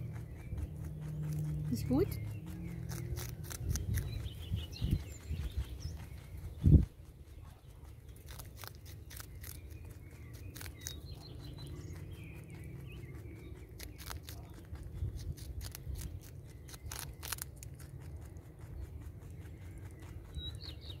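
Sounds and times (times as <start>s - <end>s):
faint birds chirping: 0.0s - 21.0s
rabbit chewing crunchy vegetable: 0.0s - 21.0s.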